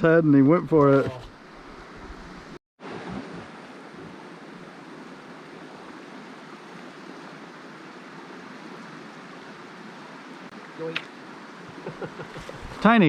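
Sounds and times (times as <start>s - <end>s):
stream water rushing: 0.4s - 13.0s.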